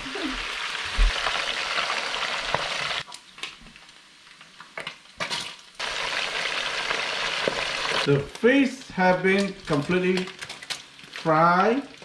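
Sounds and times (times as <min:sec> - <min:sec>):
fish deep-frying in oil: 0:00.0 - 0:12.0.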